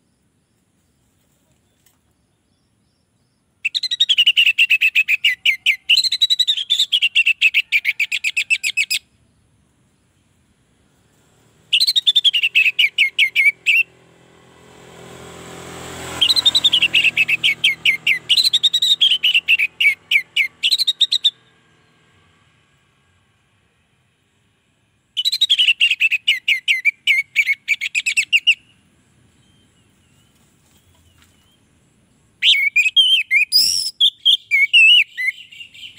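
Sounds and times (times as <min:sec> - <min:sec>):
thrush singing whistled notes: 0:03.6 - 0:09.2, 0:11.0 - 0:22.8, 0:24.2 - 0:35.9.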